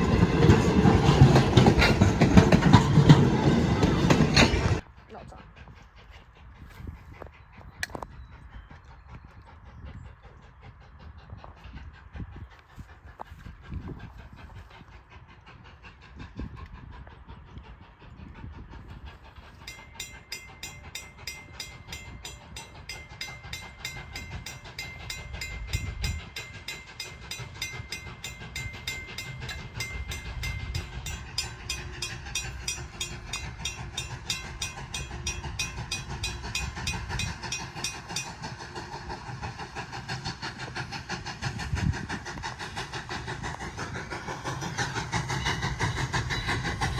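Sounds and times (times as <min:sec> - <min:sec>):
train rumble: 0:00.0 - 0:46.9.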